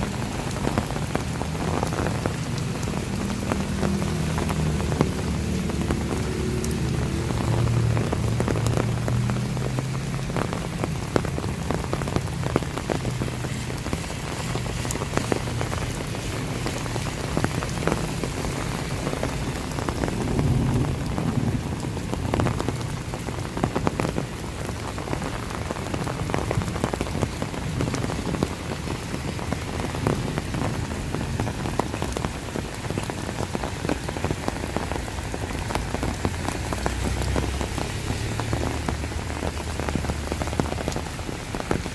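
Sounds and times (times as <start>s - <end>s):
raindrops ticking sharply: 0.0s - 41.9s
steady rain falling: 0.0s - 41.9s.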